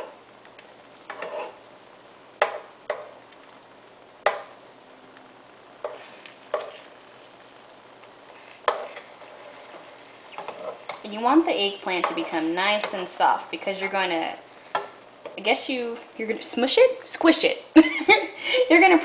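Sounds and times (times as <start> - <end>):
sauce sizzling: 0.0 - 19.0.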